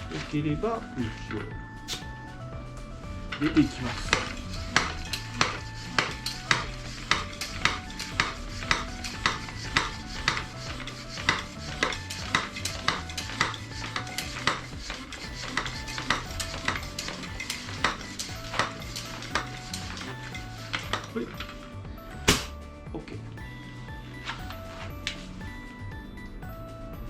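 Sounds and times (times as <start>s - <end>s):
background music with clicking beat: 0.0s - 27.0s.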